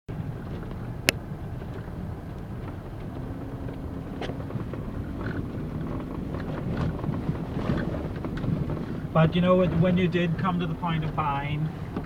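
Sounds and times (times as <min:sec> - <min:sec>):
car engine and road rumble: 0:00.1 - 0:12.0.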